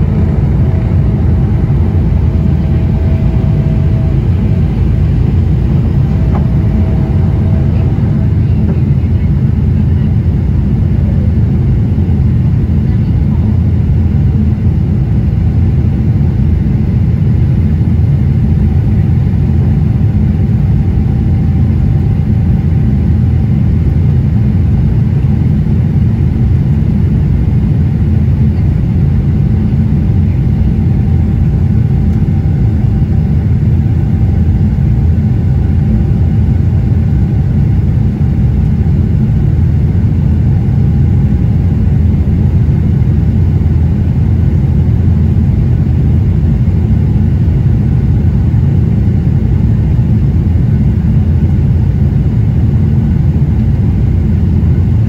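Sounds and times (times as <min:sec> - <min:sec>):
aircraft engine rumble in cabin: 0:00.0 - 0:55.0.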